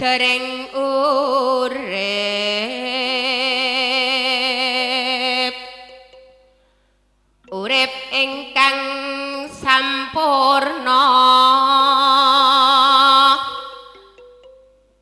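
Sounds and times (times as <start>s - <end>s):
woman singing into microphone: 0.0s - 5.9s, 7.5s - 13.9s.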